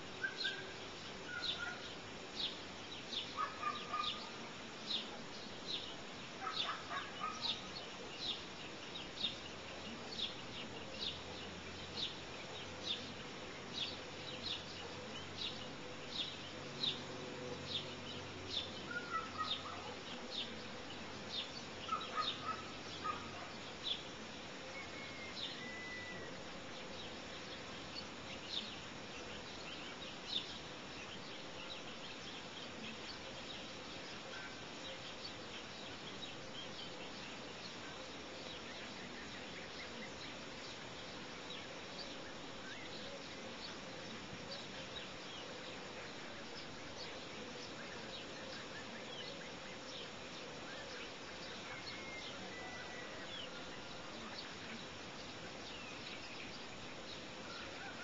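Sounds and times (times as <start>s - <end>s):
bird chirping: 0.0s - 58.0s
faint steady hum: 0.0s - 58.0s
lower bird calls: 0.1s - 58.0s.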